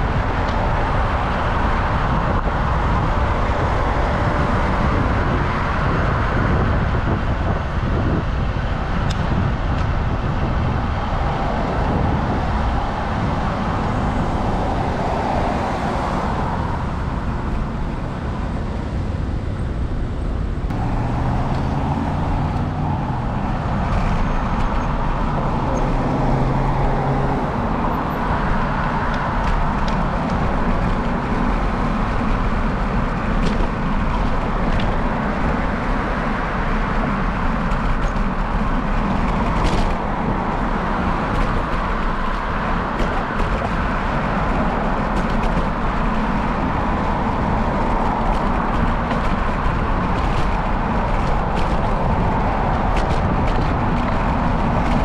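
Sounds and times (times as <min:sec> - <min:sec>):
cars and trucks passing: 0:00.0 - 0:55.0
heavy vehicle engine drone: 0:00.0 - 0:55.0
low wind rumble on microphone: 0:00.0 - 0:55.0.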